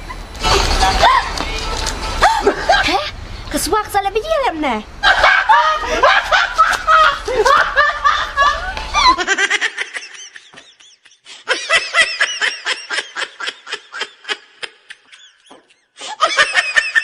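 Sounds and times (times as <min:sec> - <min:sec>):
person laughing: 0:00.5 - 0:01.4, 0:02.2 - 0:03.1, 0:05.0 - 0:17.0.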